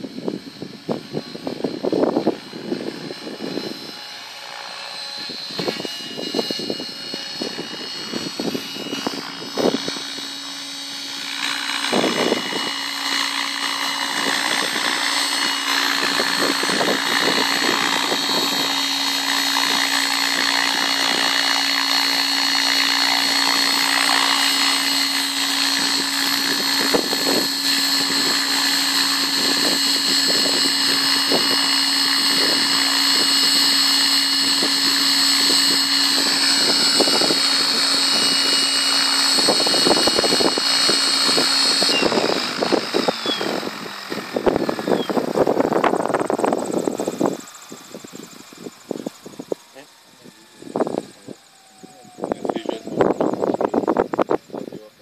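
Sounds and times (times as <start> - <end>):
model helicopter rotor and motor whine: 0.0 - 55.0.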